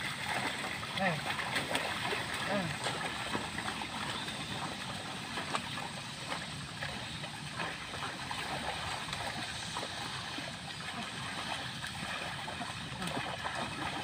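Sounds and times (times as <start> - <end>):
water and mud sloshing: 0.0 - 14.0.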